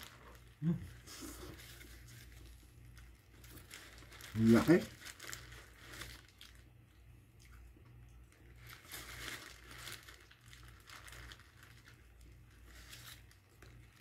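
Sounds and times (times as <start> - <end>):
paper wrapper crinkling: 0.0 - 6.9, 8.3 - 14.0
low steady hum: 0.0 - 14.0.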